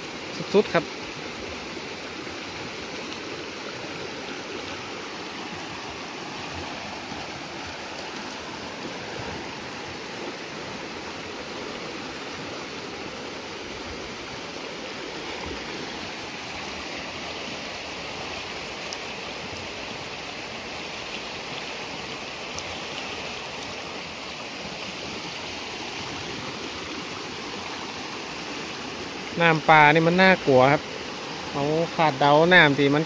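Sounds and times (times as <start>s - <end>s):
floodwater rushing down creek: 0.0s - 33.0s.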